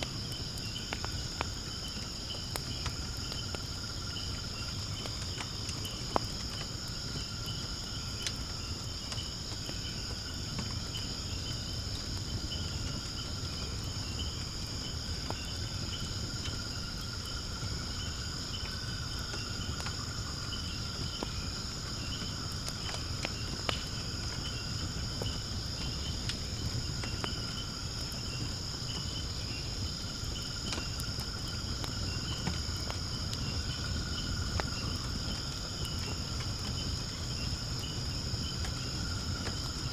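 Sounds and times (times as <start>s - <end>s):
insects chorus: 0.0s - 39.9s
wood fire crackling and popping: 0.0s - 39.9s.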